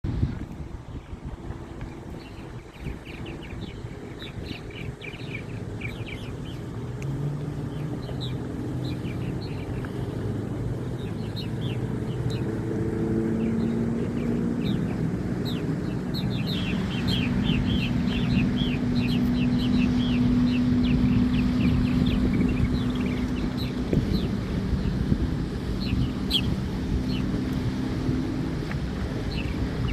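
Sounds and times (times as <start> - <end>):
low humming rumble: 0.0 - 29.9
birds chirping: 0.8 - 29.9.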